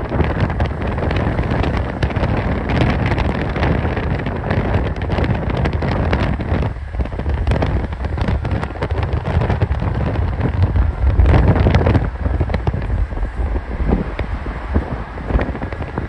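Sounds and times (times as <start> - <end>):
low drone of car engine: 0.0 - 16.0
road noise: 0.0 - 16.0
wind rush: 0.0 - 16.0.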